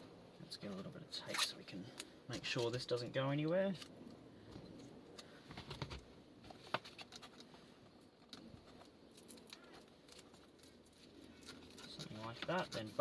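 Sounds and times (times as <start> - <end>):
hands handling wiring and tape: 0.7 - 13.0.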